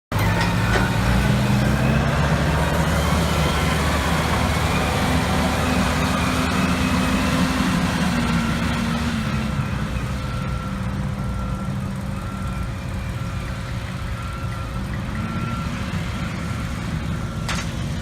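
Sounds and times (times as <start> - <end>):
crane engine droning: 0.1 - 18.0.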